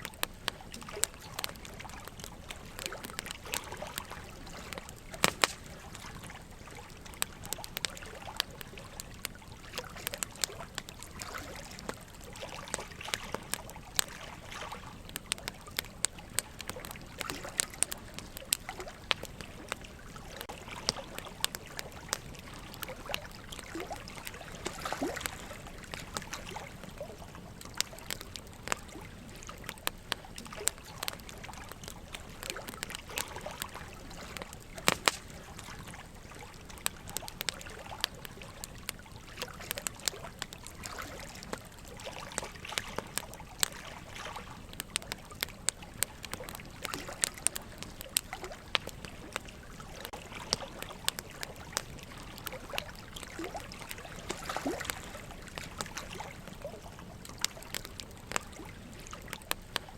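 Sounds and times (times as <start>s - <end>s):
burning logs crackling and popping: 0.0s - 59.9s
trickle of running water: 0.0s - 59.9s.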